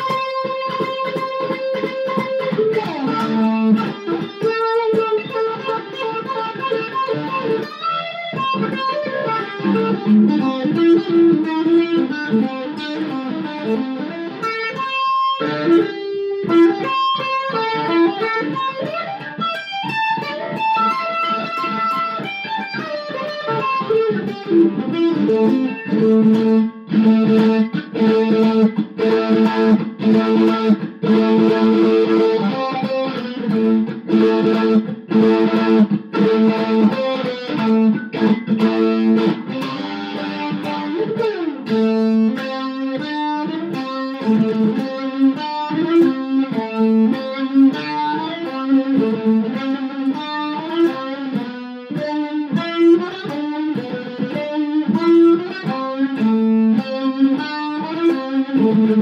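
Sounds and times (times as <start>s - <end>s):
electric mandolin playing: 0.0s - 59.0s.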